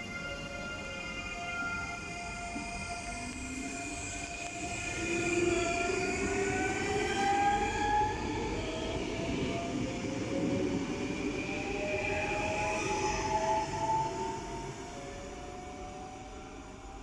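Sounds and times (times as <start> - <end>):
electric train motor whine: 0.0 - 17.0.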